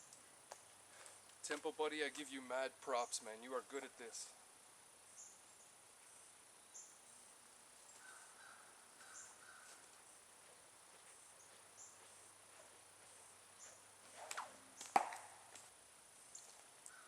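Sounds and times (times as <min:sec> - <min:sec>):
insects chirping: 0:02.4 - 0:17.0.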